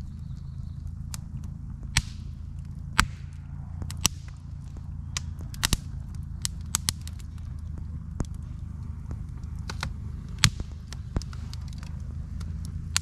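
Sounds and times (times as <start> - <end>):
campfire crackling and popping: 0.0 - 13.0
low steady hum: 0.0 - 13.0.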